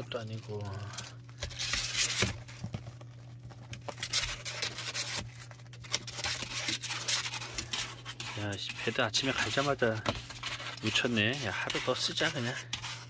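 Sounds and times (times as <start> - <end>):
plastic pads crinkling: 0.0 - 13.0.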